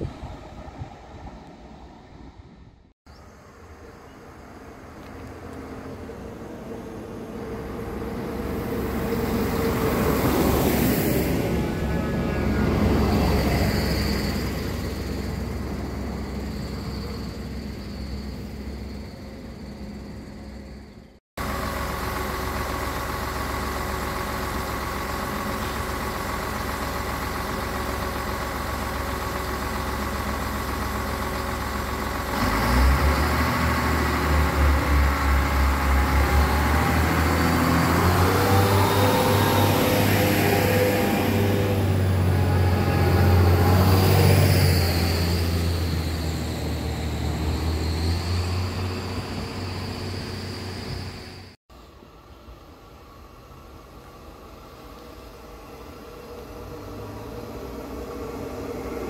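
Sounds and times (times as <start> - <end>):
diesel engine pulsing rumble: 0.0 - 59.0
diesel railcar passing: 0.0 - 59.0.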